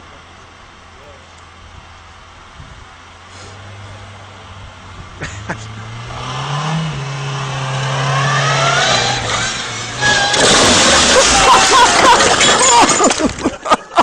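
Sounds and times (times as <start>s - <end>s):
car engine running: 0.0s - 13.5s.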